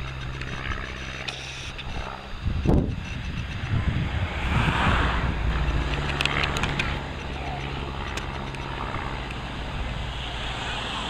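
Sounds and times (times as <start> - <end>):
small aircraft engine drone: 0.0 - 11.0.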